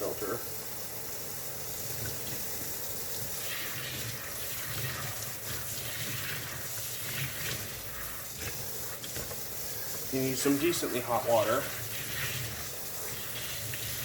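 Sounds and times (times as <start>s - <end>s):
tap water running into sink: 1.6s - 14.0s.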